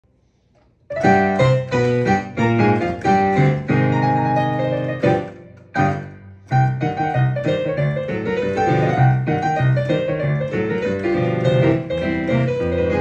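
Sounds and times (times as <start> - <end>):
ragtime piano piece: 0.9 - 13.0.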